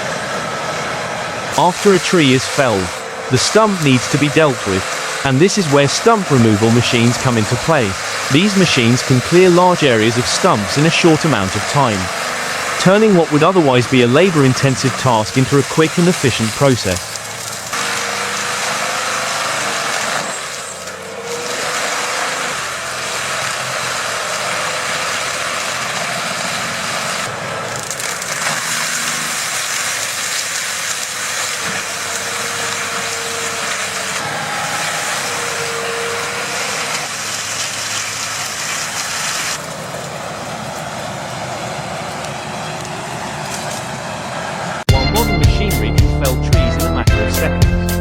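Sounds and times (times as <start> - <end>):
wood-grinding machine running: 0.0 - 48.0.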